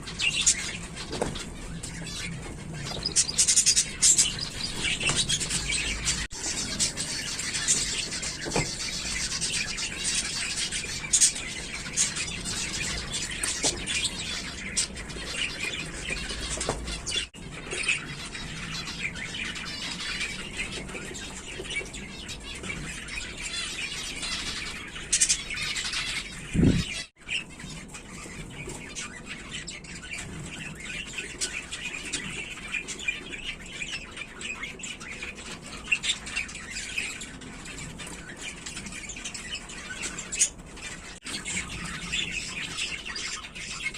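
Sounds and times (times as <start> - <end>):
finches chirping and calling: 0.0 - 43.9.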